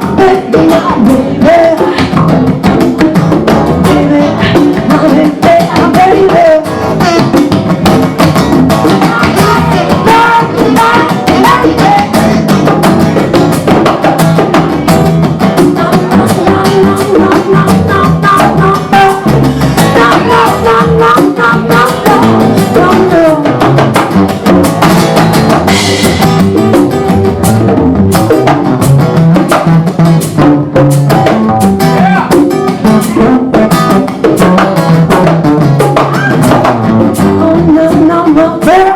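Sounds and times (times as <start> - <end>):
bongos and hand percussion: 0.0 - 38.9.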